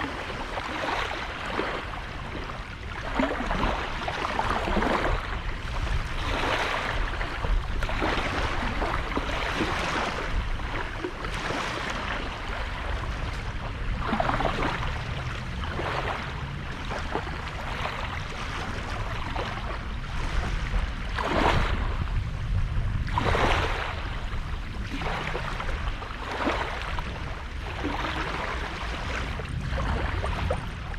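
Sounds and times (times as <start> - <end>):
small waves breaking on sand: 0.0 - 30.9
steady low rumble: 0.0 - 30.9.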